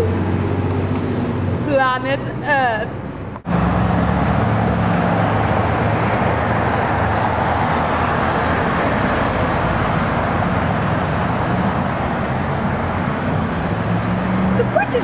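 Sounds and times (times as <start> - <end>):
road vehicle noise humming: 0.0 - 15.0.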